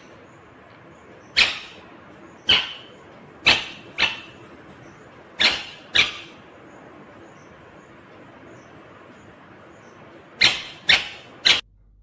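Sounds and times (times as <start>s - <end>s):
parakeet calls: 0.0s - 11.6s.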